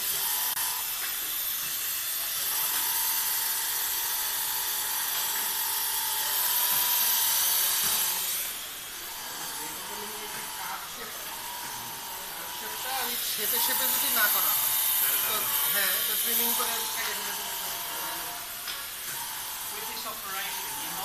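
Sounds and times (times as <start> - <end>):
faint steady machine whine: 0.0 - 21.0
machine hissing: 0.0 - 21.0.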